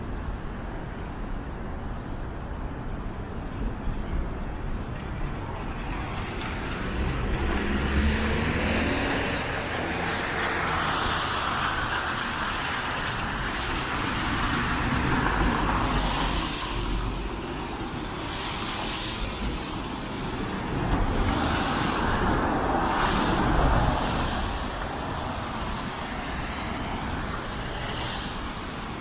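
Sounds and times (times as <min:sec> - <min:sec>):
cars passing on street: 0:00.0 - 0:29.0.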